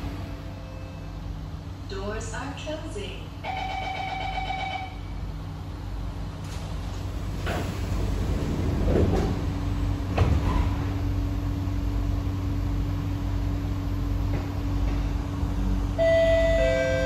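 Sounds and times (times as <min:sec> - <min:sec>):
train carriage hum and rumble: 0:00.0 - 0:17.0.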